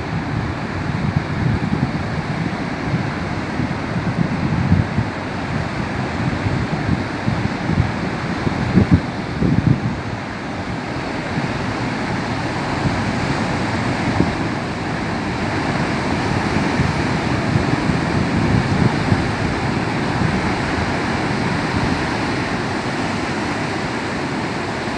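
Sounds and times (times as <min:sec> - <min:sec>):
surf breaking and churning: 0:00.0 - 0:24.9
wind buffeting microphone: 0:00.0 - 0:24.9.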